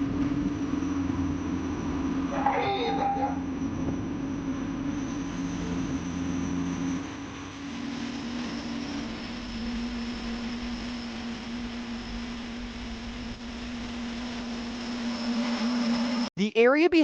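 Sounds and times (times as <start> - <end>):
turbine engine hum and whine: 0.0 - 16.3.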